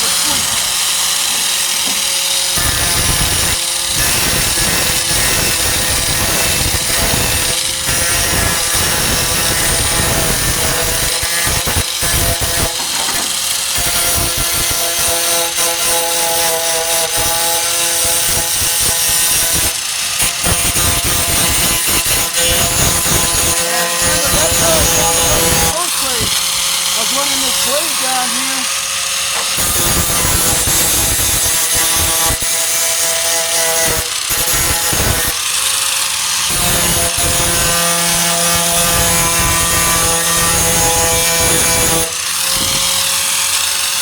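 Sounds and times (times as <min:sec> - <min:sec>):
angle grinder cutting sheet steel: 0:00.0 - 0:44.0.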